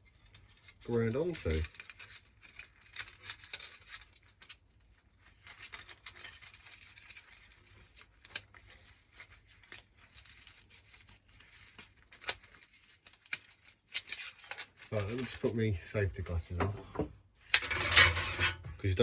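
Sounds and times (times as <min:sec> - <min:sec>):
small parts scraping: 0:00.0 - 0:19.0.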